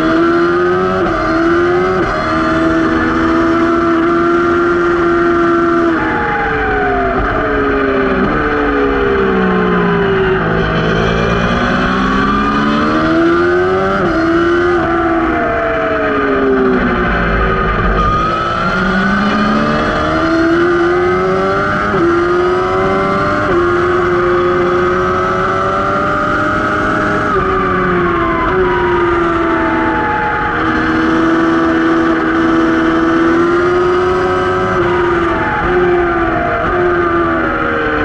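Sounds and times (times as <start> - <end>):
racing motorcycle engine revving: 0.0 - 38.0.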